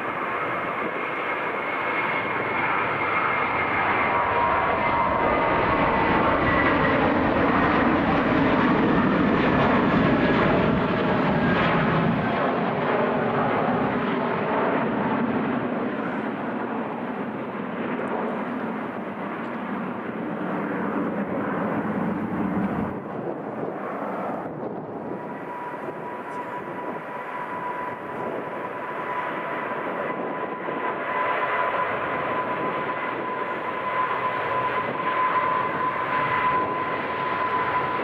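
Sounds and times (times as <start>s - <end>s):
airliner engines running: 0.0s - 38.0s.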